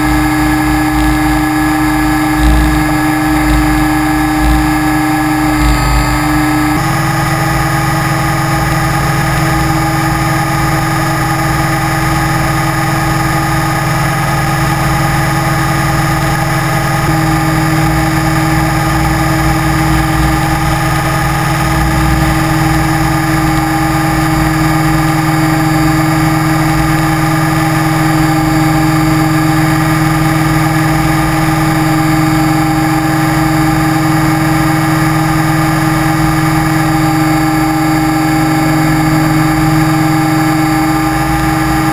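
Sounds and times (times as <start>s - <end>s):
electric motor whine: 0.0s - 41.9s.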